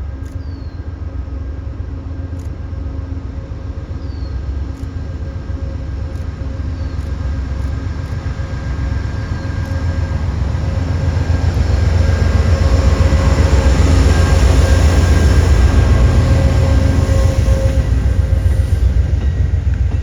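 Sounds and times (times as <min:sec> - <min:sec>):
train running on tracks: 0:00.0 - 0:20.0.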